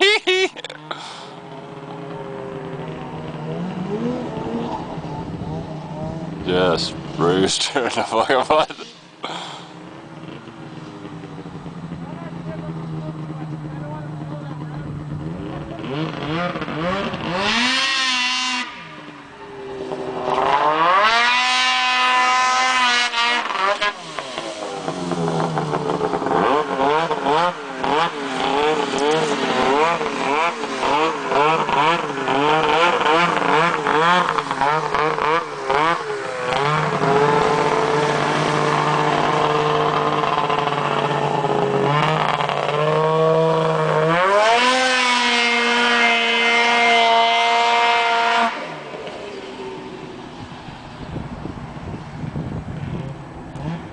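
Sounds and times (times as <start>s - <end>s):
snowmobile engine revving: 0.0s - 51.6s, 52.8s - 53.9s.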